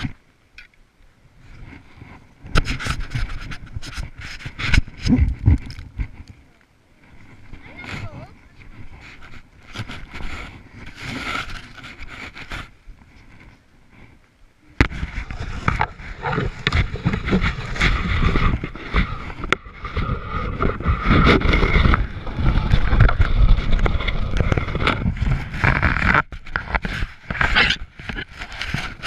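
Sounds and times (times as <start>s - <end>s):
camera rubbing against jacket: 1.5s - 6.4s, 7.0s - 14.2s, 14.8s - 29.0s.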